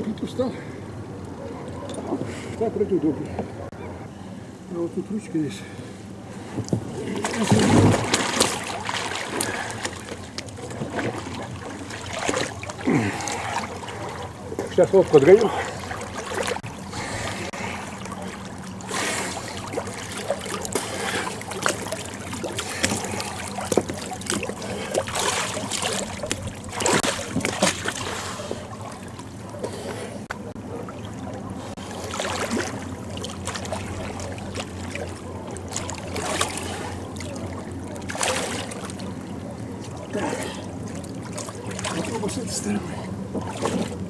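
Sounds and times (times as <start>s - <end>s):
water splashing from swimming: 6.6s - 44.0s.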